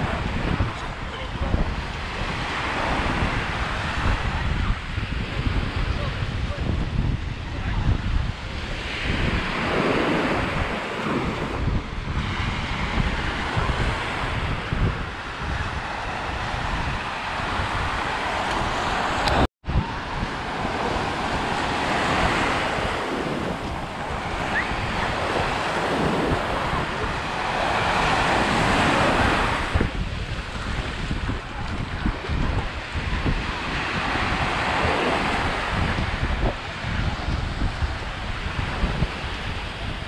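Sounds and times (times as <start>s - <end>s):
small waves breaking on sand: 0.0s - 40.0s
wind buffeting microphone: 0.0s - 40.0s.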